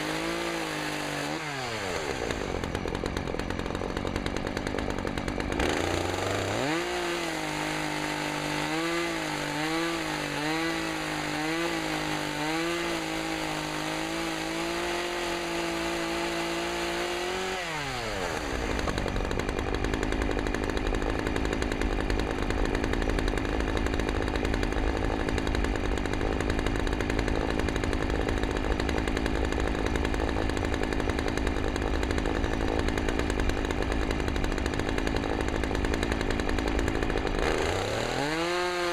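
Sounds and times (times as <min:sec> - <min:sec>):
chainsaw engine whining: 0:00.0 - 0:38.9.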